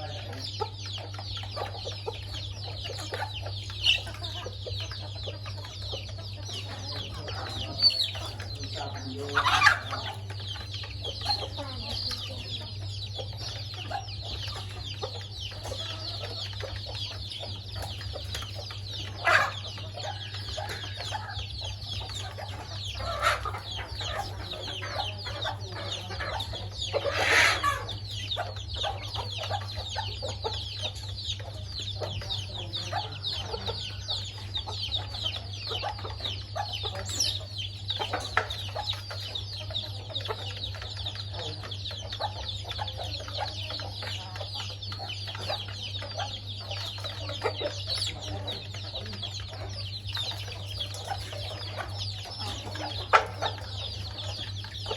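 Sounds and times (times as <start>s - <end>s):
chickens clucking: 0.0s - 54.9s
chicks peeping: 0.0s - 54.9s.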